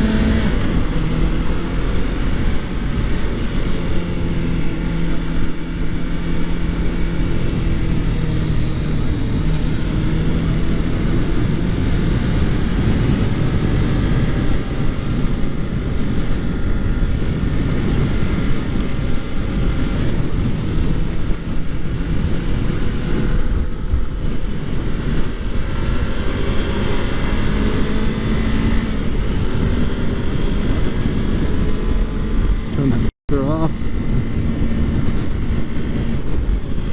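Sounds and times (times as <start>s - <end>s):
motorcycle engine cruising: 0.0s - 36.9s
wind rushing over microphone: 0.0s - 36.9s.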